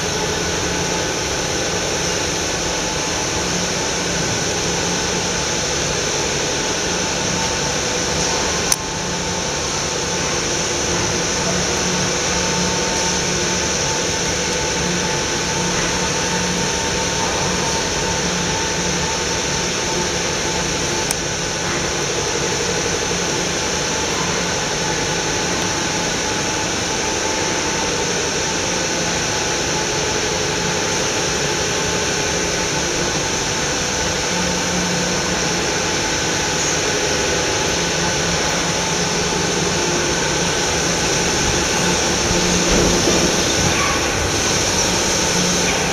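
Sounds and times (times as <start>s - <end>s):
machinery hum and hiss: 0.0s - 45.9s.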